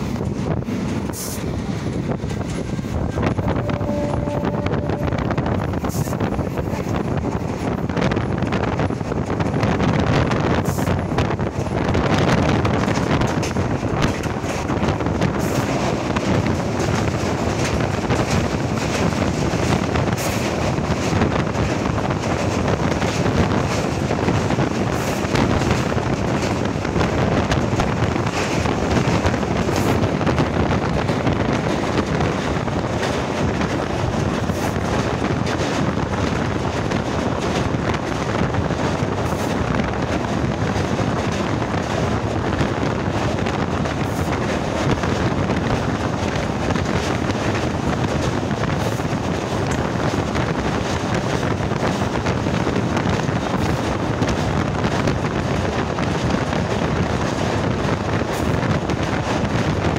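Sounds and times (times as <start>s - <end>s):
train running gear rumbling: 0.0s - 59.9s
wind buffeting microphone: 0.0s - 59.9s.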